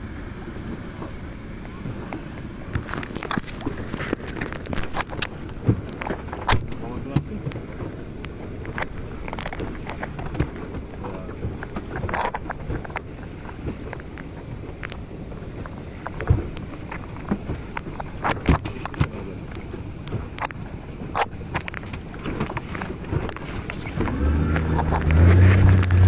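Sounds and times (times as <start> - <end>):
boat hull slapping waves: 0.0 - 26.0
rushing water and wind: 0.0 - 26.0.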